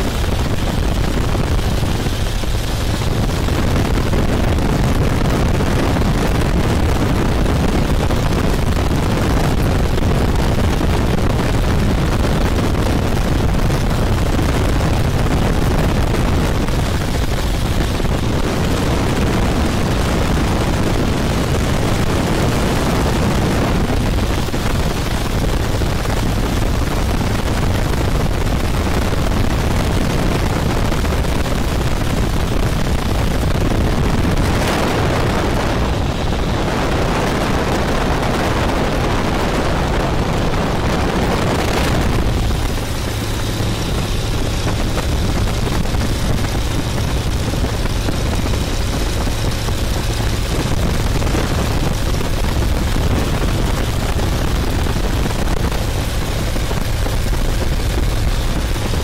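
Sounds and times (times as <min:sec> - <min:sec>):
plane engine and propeller: 0:00.0 - 0:59.0
wind rushing over microphone: 0:00.0 - 0:59.0.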